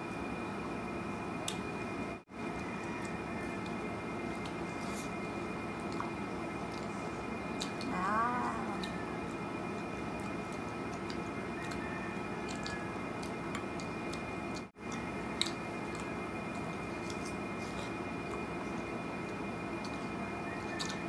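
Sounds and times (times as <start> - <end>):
people chewing: 2.5 - 21.0.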